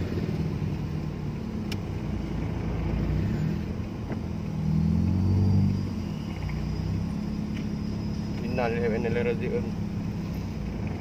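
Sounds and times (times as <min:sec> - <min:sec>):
traffic engines humming: 0:00.0 - 0:11.0.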